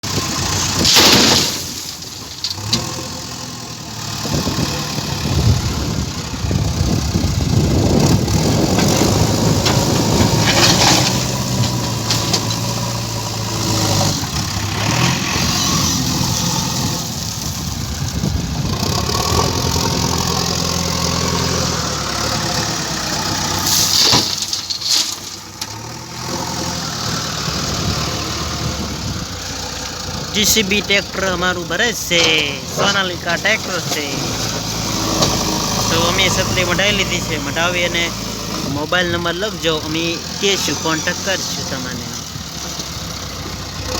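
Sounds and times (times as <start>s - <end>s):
excavator diesel engine revving: 0.0s - 43.9s.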